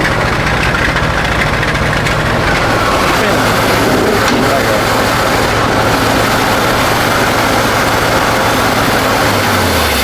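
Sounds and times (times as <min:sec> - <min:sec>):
truck engine revving hard: 0:00.0 - 0:10.0.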